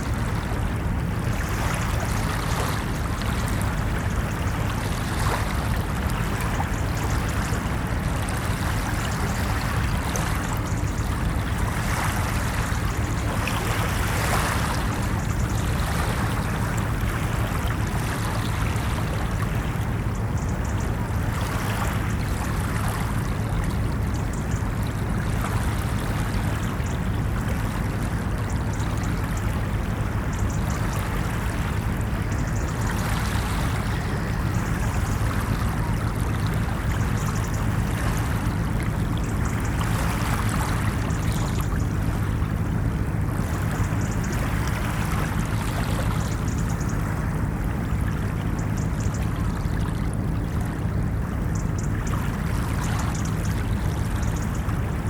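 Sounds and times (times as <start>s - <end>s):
ocean waves on a beach: 0.0s - 55.0s.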